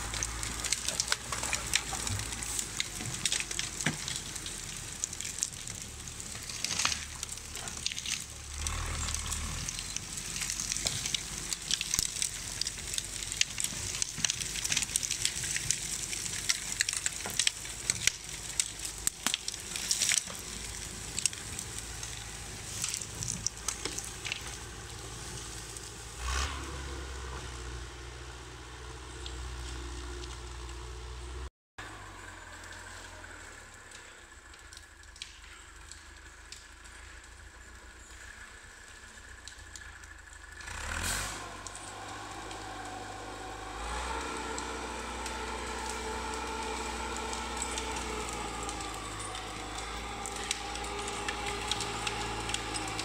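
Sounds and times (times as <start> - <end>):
diesel engine running low: 0.0 - 53.0.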